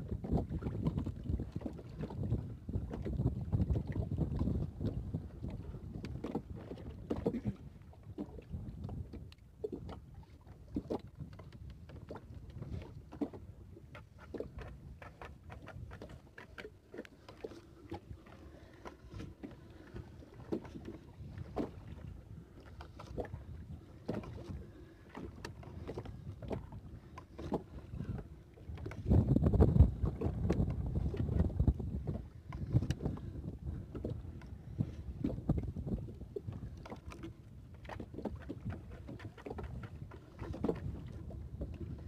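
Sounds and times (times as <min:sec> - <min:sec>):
water lapping against hull: 0:00.0 - 0:42.0.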